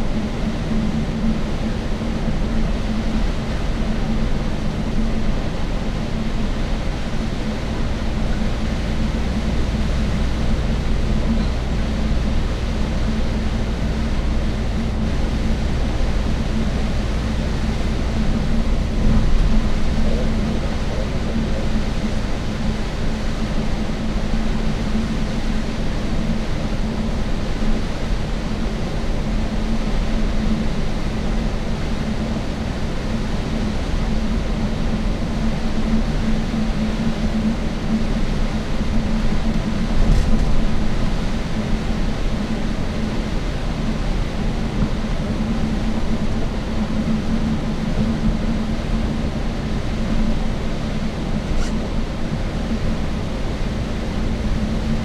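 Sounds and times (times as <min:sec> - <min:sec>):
bus engine and road noise: 0:00.0 - 0:55.0
low hum: 0:00.0 - 0:55.0.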